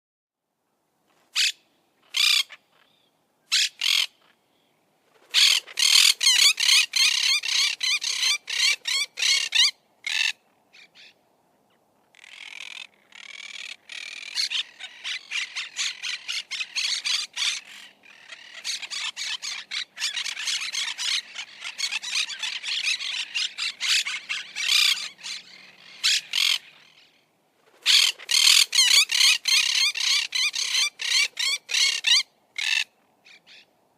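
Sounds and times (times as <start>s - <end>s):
parakeets squawking: 2.1s - 2.6s, 3.5s - 4.2s, 5.3s - 11.1s, 12.2s - 27.2s, 27.8s - 33.6s.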